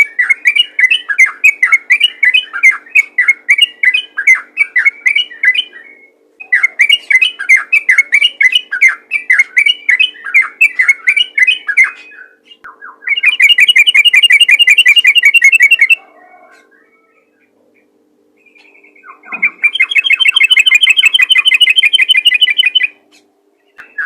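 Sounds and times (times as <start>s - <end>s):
bird chattering song: 0.0s - 16.0s, 17.3s - 24.0s
rapid bird trill: 0.0s - 16.0s, 18.4s - 24.0s.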